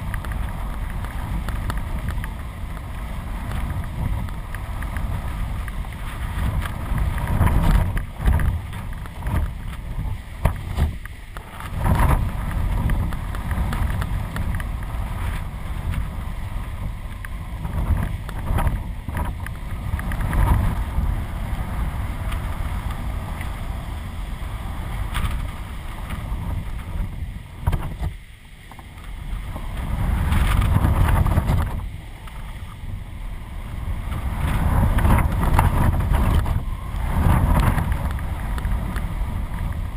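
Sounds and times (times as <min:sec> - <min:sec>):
gusty wind buffeting microphone: 0:00.0 - 0:39.9.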